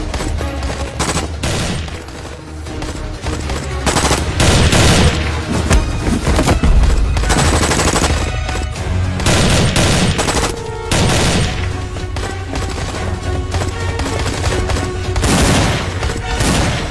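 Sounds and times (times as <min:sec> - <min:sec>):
rapid automatic gunfire: 0:00.0 - 0:05.3, 0:07.2 - 0:16.9.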